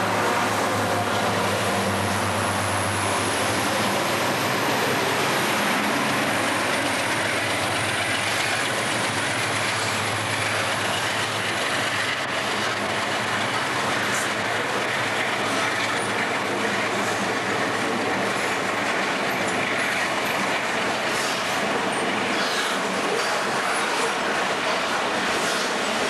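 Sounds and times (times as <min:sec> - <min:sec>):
steel wheels roaring on rails: 0:00.0 - 0:26.0.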